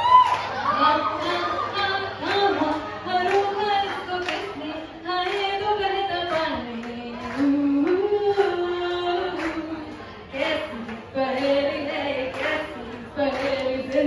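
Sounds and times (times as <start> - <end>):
woman singing into microphone: 0.6 - 14.0.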